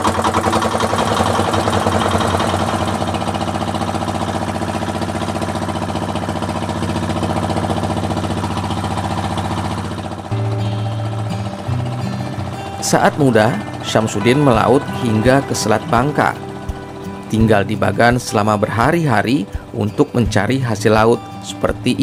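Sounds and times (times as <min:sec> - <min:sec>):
boat engine chugging: 0:00.0 - 0:22.0
background music: 0:01.2 - 0:22.0.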